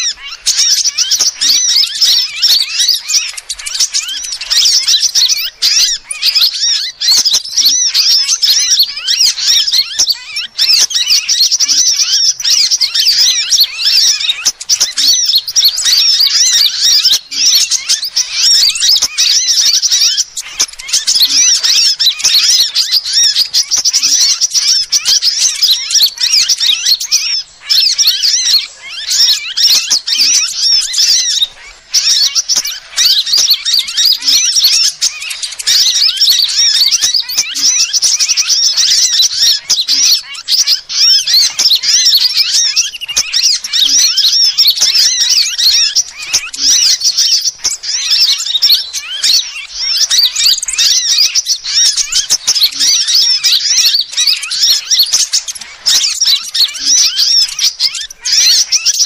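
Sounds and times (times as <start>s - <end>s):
high-pitched bird chirps and twitters: 0.0s - 59.0s.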